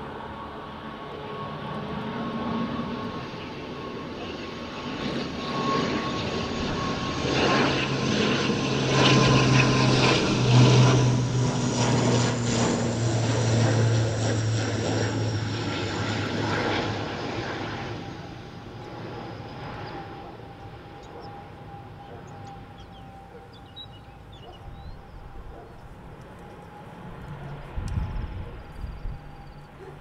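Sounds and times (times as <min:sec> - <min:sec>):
turboprop engines droning: 0:00.0 - 0:30.0.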